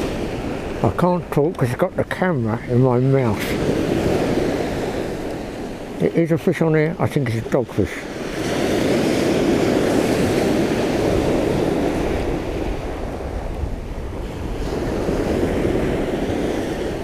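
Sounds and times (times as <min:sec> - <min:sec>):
wind buffeting microphone: 0:00.0 - 0:06.3, 0:08.0 - 0:17.0.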